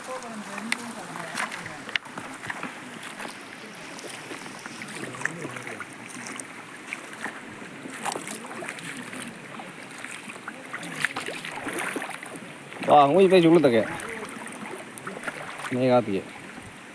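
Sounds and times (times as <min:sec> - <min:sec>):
small splashes and knocks: 0:00.0 - 0:16.8
water splashing and running: 0:00.0 - 0:16.9.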